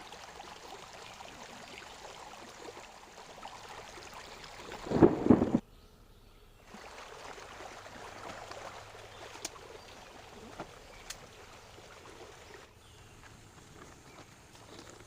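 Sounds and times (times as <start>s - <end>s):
water trickling and splashing: 0.0s - 5.6s, 6.6s - 15.0s.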